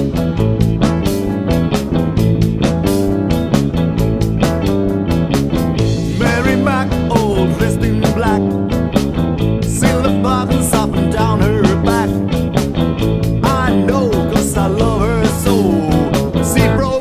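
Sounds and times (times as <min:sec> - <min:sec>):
lead guitar bending notes: 0:00.0 - 0:17.0
rock band playing: 0:00.0 - 0:17.0.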